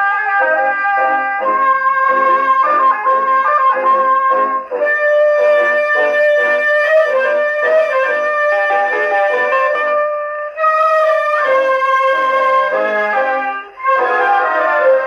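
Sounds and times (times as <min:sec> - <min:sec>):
popular song from phonograph record: 0:00.0 - 0:15.0.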